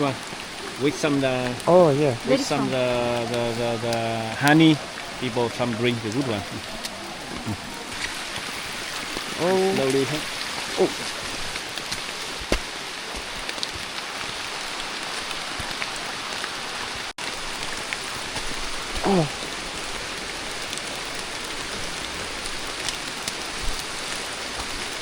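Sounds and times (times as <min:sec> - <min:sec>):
rain drop clicks: 0:00.0 - 0:25.0
steady rain falling: 0:00.0 - 0:25.0.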